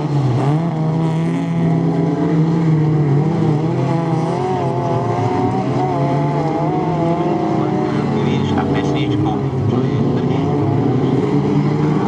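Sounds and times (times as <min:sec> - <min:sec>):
race car engines running: 0:00.0 - 0:12.0.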